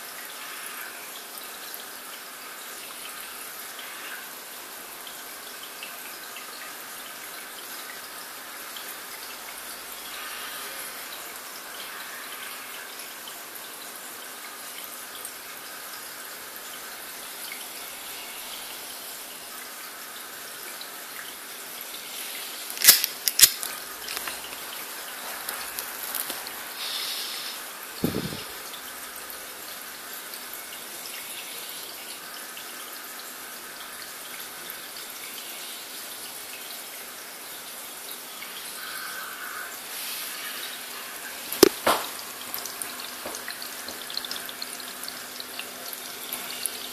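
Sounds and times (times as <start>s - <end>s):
aquarium water trickling: 0.0s - 46.9s.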